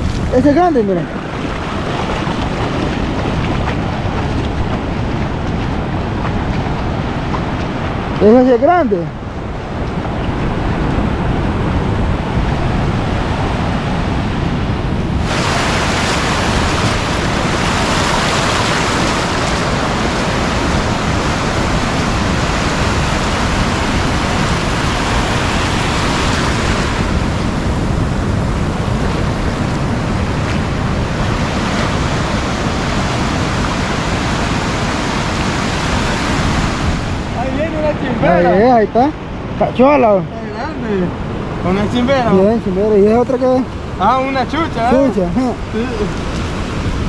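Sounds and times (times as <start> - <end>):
ocean surf breaking: 0.0 - 47.0.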